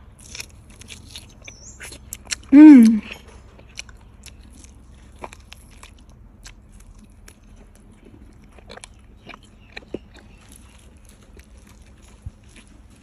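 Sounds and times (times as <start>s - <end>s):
chewing crispy skin crunches: 0.0s - 13.0s.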